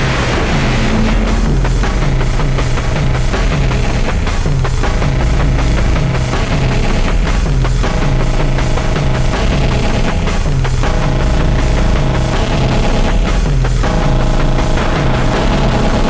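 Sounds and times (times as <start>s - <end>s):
steady higher tone: 0.0s - 13.1s
droning wall of noise: 0.0s - 16.0s
pounding war drums: 0.0s - 16.0s
pulsing low note: 0.0s - 16.0s.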